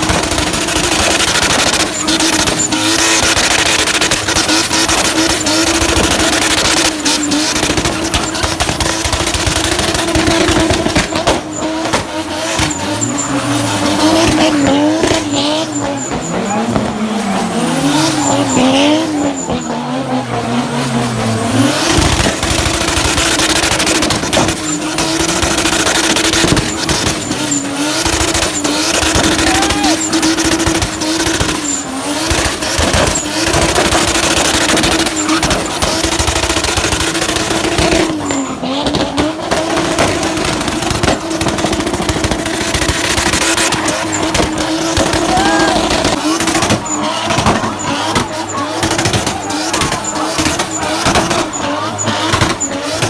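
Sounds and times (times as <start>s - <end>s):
car engine revving: 0.0s - 53.0s
tyres squealing on tarmac: 0.0s - 53.0s.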